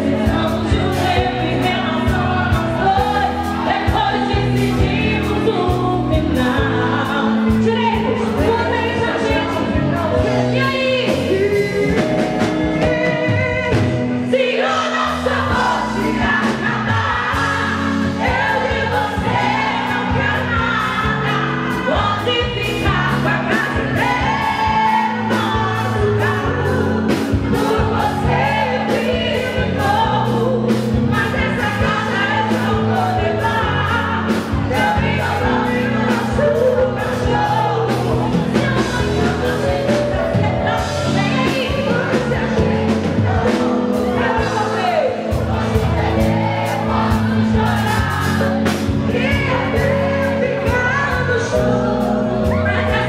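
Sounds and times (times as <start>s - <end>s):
drums: 0.0s - 53.0s
keyboards: 0.0s - 53.0s
woman singing lead vocals: 0.0s - 53.0s.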